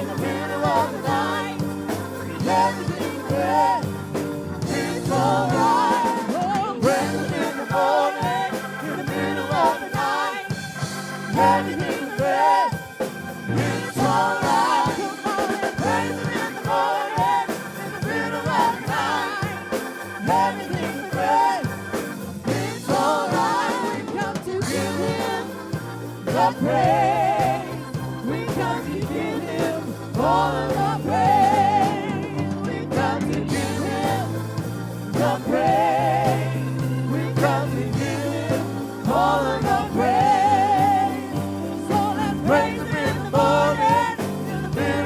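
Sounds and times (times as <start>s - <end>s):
band with drums: 0.0s - 45.0s
held keyboard tone: 0.0s - 45.0s
voices singing: 0.0s - 45.0s.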